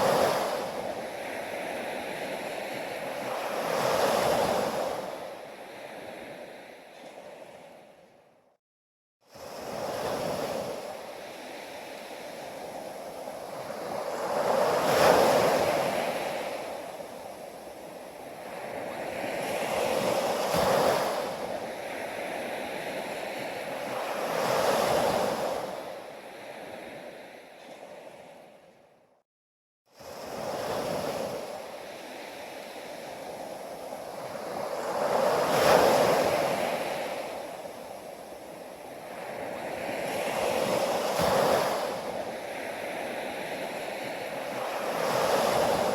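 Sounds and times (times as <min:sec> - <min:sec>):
ocean waves breaking on beach: 0:00.0 - 0:08.0, 0:09.3 - 0:28.7, 0:30.0 - 0:45.9.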